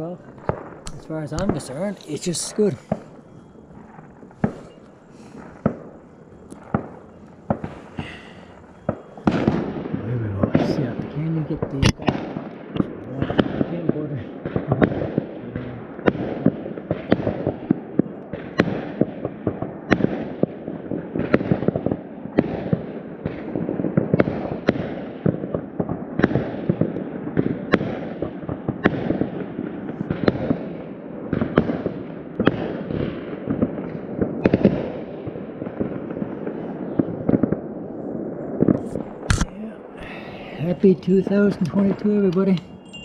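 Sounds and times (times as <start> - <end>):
fireworks crackle and rumble: 0.0 - 43.0
fireworks sharp bangs: 0.0 - 43.0.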